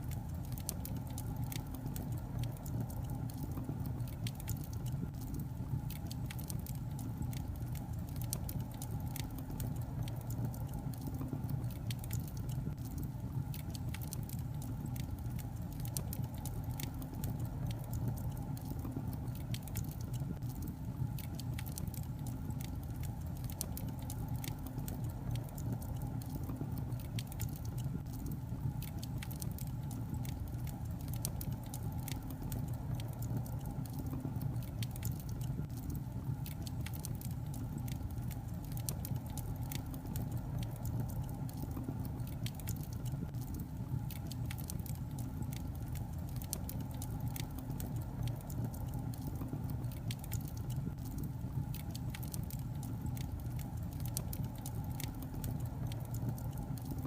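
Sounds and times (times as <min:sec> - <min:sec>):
fire crackling and popping: 0:00.0 - 0:57.0
low rumble of fire: 0:00.0 - 0:57.0.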